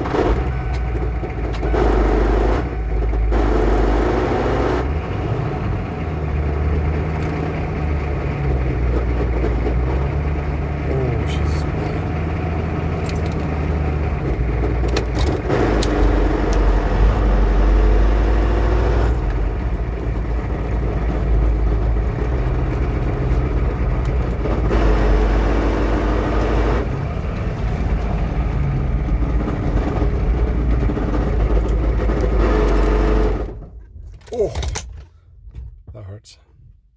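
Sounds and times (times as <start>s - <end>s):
diesel engine running: 0.0s - 36.2s.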